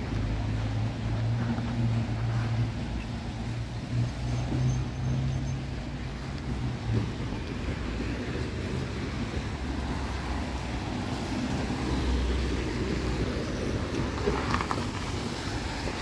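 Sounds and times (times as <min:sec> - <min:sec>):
street noise hiss: 0:00.0 - 0:16.0.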